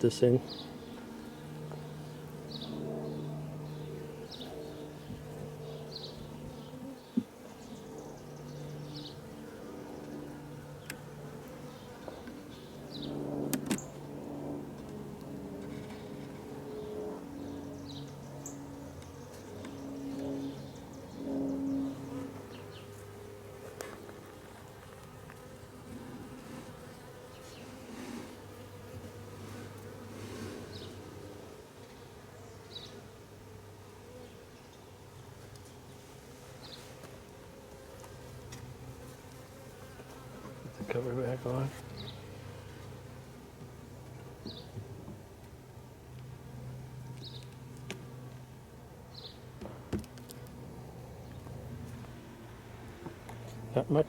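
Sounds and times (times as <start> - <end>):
honey bees buzzing: 0.0 - 54.0.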